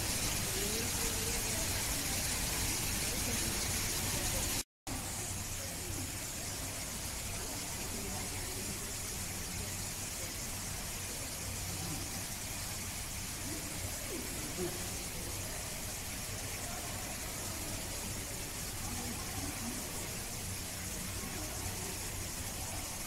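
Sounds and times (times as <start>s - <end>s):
faint human voices: 0.0s - 23.0s
steady hiss: 0.0s - 23.0s.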